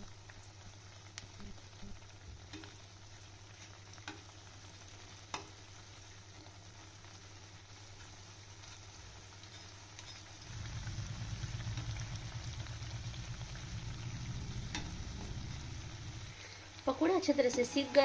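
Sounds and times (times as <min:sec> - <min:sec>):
batter deep-frying sizzle: 0:00.0 - 0:18.0.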